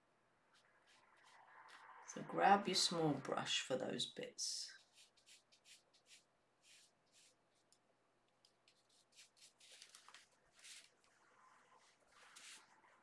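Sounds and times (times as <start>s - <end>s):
paintbrush strokes on paper: 0.5s - 3.2s, 4.6s - 7.8s, 8.4s - 13.0s.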